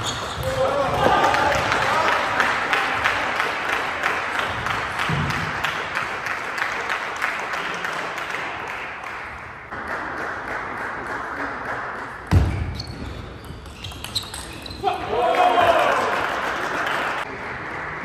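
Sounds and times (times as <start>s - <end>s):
crowd applause: 0.1s - 11.9s, 15.1s - 18.0s.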